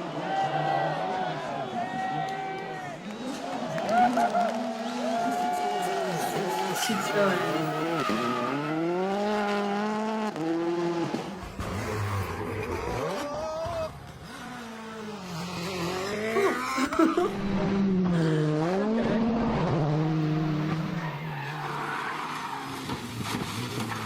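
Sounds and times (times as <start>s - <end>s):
rally car engine revving: 3.1s - 24.0s.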